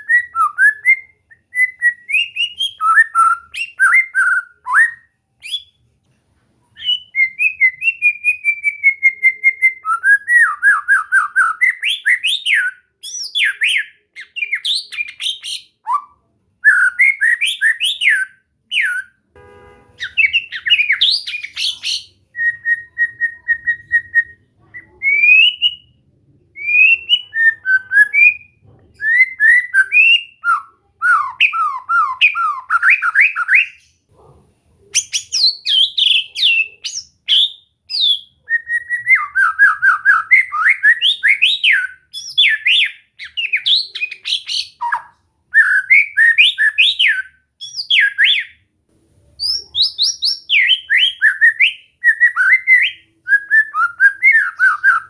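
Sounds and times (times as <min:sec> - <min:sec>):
songbird whistling song: 0:00.0 - 0:05.8, 0:06.7 - 0:34.1, 0:34.9 - 0:48.6, 0:49.4 - 0:55.0.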